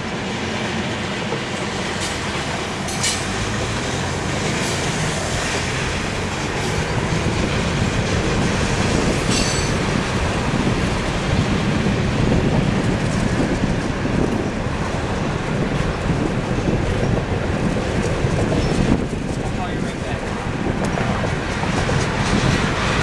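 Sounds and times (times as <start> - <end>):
car road noise: 0.0 - 23.0
freight train rumble: 0.0 - 23.0.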